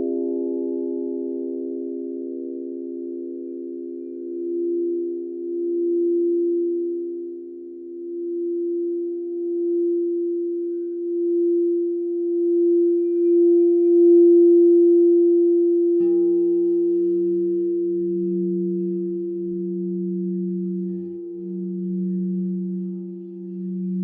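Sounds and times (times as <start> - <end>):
singing bowls ringing: 0.0 - 24.0.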